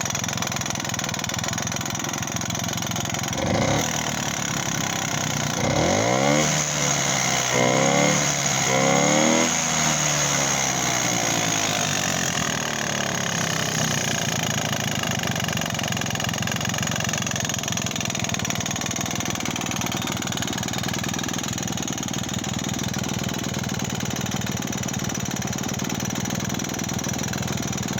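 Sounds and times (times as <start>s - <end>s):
two-stroke engine revving and idling: 0.0s - 27.9s.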